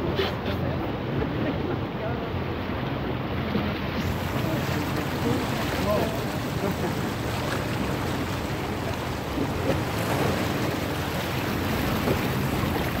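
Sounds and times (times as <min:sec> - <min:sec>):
outboard motor running: 0:00.0 - 0:13.0
water washing around boat: 0:00.0 - 0:13.0.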